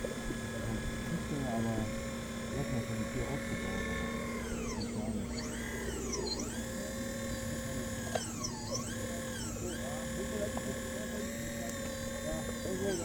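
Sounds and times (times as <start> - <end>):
electric pump motor whine: 0.0 - 13.0.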